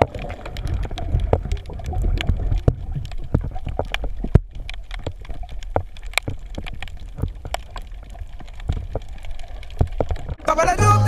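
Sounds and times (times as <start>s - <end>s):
sharp underwater clicks and crackles: 0.0s - 10.6s
low rumble of moving water: 0.0s - 11.0s.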